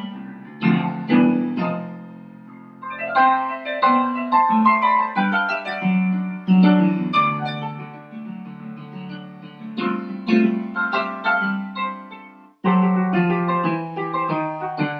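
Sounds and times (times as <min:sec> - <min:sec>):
light instrumental melody: 0:00.0 - 0:14.9.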